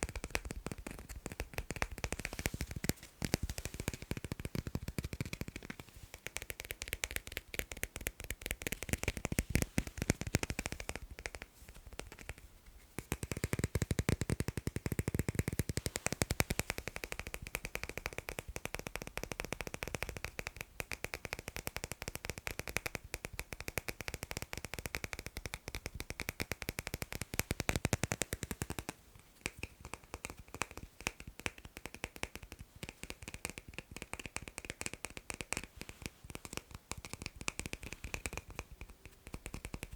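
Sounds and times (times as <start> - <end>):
fast tapping on magnets: 0.0 - 39.9.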